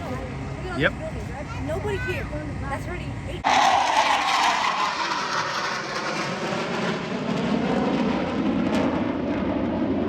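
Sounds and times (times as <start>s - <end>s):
aircraft engine roar passing: 0.0s - 10.0s.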